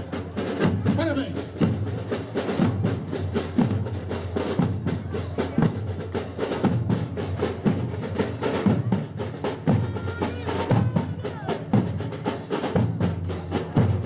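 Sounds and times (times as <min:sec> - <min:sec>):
rattling snare drums: 0:00.0 - 0:14.0.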